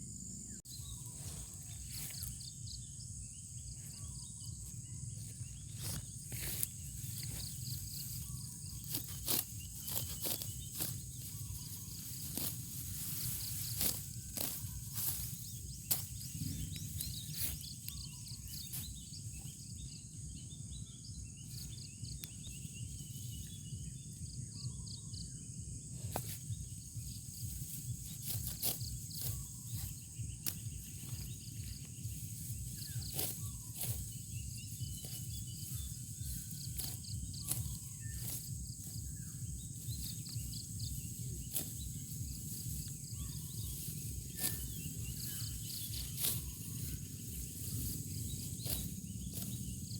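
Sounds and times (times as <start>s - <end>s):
insects chirring: 0.0s - 49.9s
rice stalks rustling and clicking: 0.8s - 2.5s, 5.2s - 19.6s, 26.0s - 49.9s.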